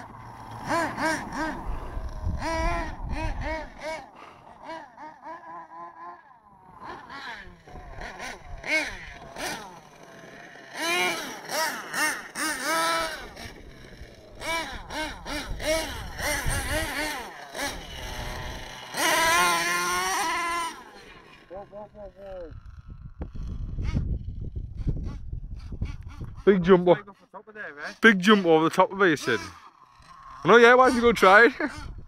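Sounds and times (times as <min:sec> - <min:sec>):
rc truck engine revving: 0:00.0 - 0:32.0.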